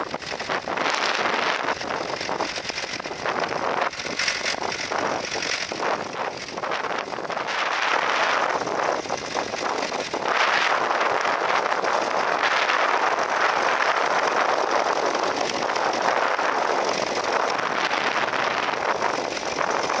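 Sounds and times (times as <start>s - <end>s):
tractor engine under load: 0.0s - 20.0s
wind on microphone: 0.0s - 20.0s.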